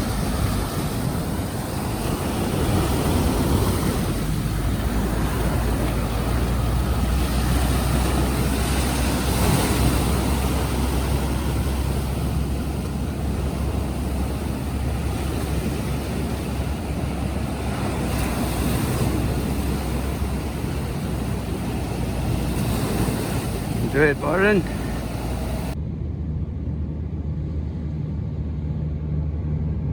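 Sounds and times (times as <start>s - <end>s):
waves breaking: 0.0s - 25.8s
wind buffeting microphone: 0.0s - 25.8s
outboard motors droning: 0.0s - 29.9s.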